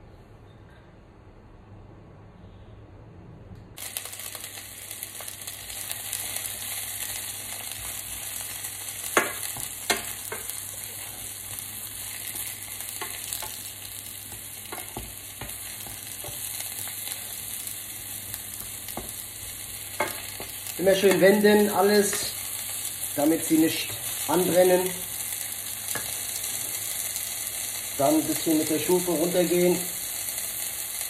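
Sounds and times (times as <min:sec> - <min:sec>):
mushrooms sizzling in a frying pan: 0:03.8 - 0:31.0.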